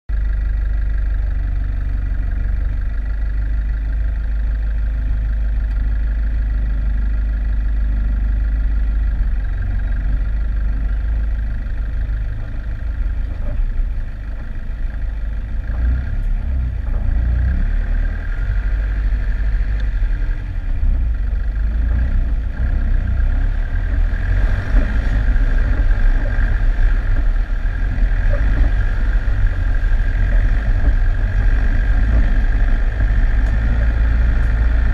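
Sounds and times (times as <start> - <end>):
vehicle engine rumbling: 0.1 - 34.9.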